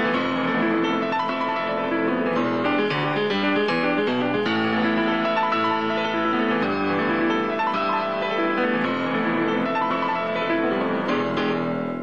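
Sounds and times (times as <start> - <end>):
piano-led rock music: 0.0 - 12.0.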